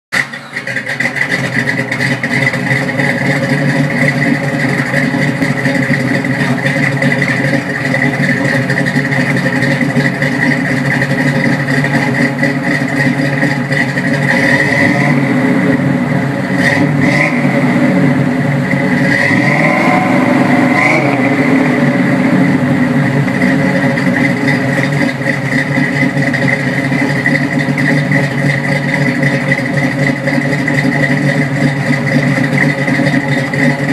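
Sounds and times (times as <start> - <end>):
vee eight engine idling: 0.1 - 33.9.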